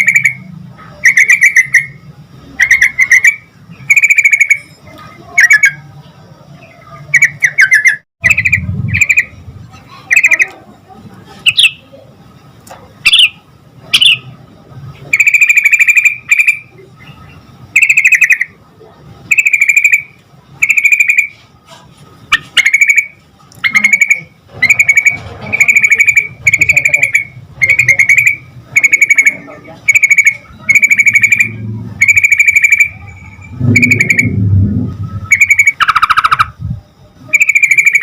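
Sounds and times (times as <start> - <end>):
bird singing bubbling phrases: 0.0 - 5.9, 6.5 - 10.6, 11.4 - 12.0, 13.0 - 14.4, 15.1 - 21.4, 22.3 - 38.0.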